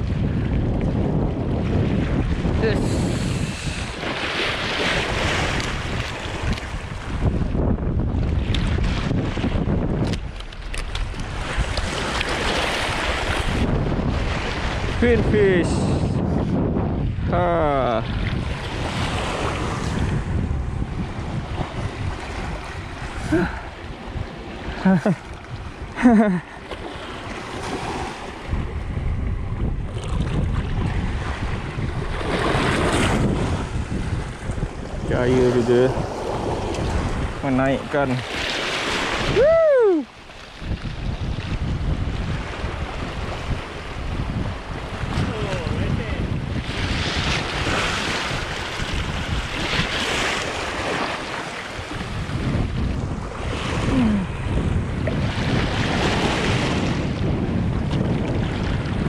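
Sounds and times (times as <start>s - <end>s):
sea waves washing against rocks: 0.0s - 59.0s
wind buffeting microphone: 0.0s - 59.0s.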